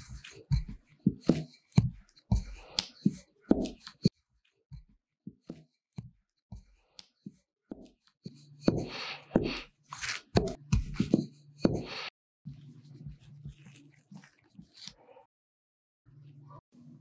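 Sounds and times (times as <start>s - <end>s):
rolling pin rolling dough: 0.0s - 14.8s.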